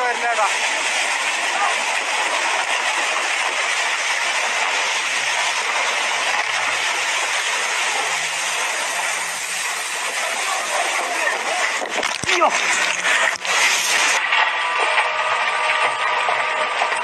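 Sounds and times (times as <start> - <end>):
mud and debris rushing downhill: 0.0 - 17.0.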